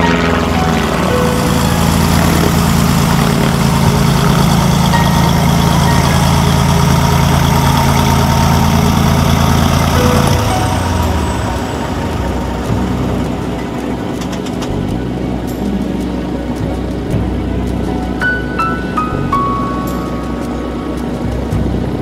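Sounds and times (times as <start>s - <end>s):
propeller plane engine running: 0.0s - 22.0s.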